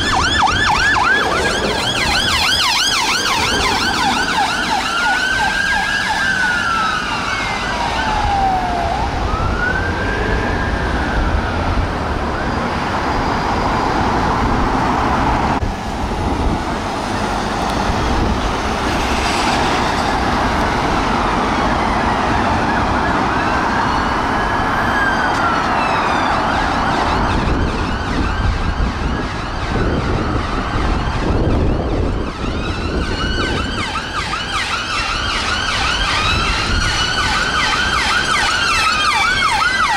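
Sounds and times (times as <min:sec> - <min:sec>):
emergency sirens wailing and yelping: 0:00.0 - 0:39.9
road traffic rumble: 0:00.0 - 0:39.9.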